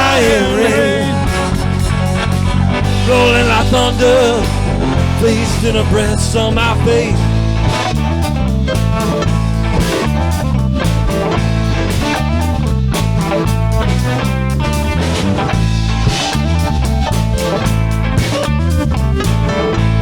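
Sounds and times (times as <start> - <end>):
blues-rock band playing: 0.0 - 20.0.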